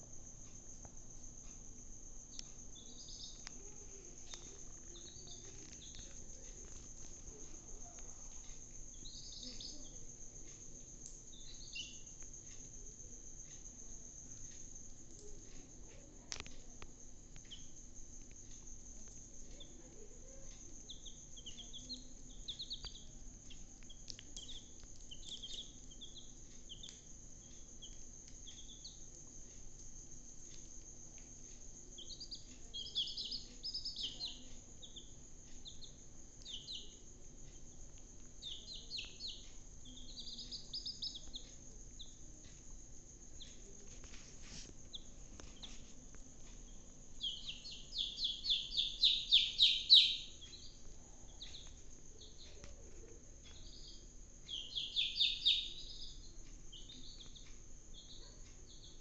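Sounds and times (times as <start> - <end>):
chicks peeping: 2.3 - 16.7, 17.4 - 59.0.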